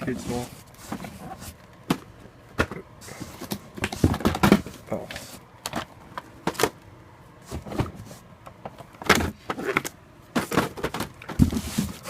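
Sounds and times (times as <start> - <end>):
cardboard and plastic rustling: 0.0 - 6.8, 7.4 - 12.0.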